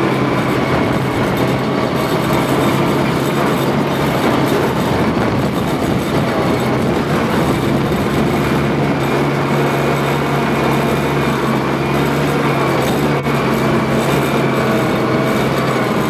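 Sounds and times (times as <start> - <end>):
steel tracks clattering: 0.0 - 16.0
vehicle engine droning: 0.0 - 16.0.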